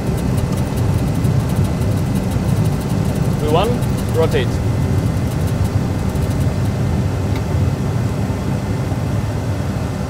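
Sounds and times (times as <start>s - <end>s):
jet engine low rumble: 0.0s - 10.0s.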